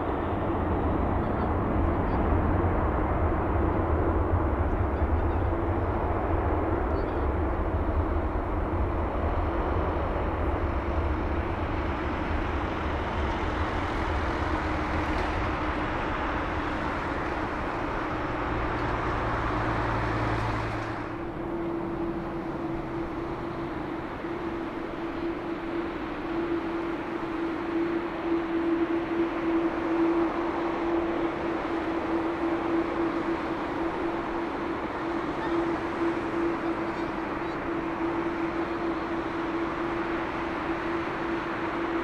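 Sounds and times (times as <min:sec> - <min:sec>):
jet engines taxiing: 0:00.0 - 0:42.0.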